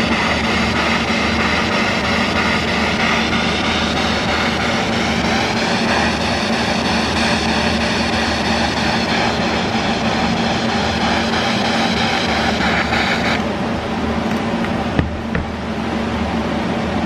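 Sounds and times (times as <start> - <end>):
steady tones: 0.0 - 16.0.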